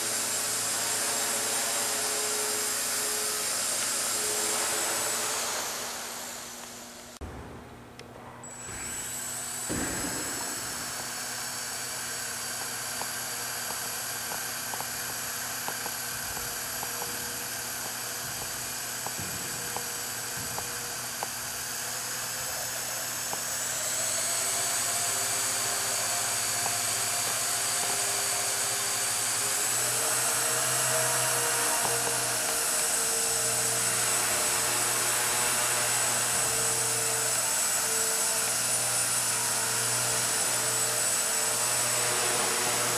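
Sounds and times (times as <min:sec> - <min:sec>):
rc helicopter motor whining: 0:00.0 - 0:07.2, 0:08.4 - 0:42.9.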